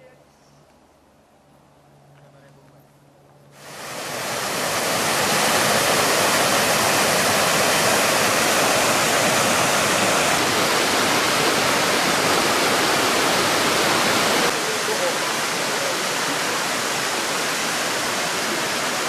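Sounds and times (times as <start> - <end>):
river rushing down a cascade: 3.6 - 19.0.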